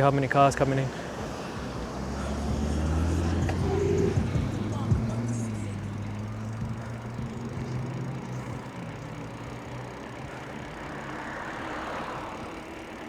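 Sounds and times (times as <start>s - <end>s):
car engines humming: 0.0s - 13.0s
car passing: 0.0s - 13.0s.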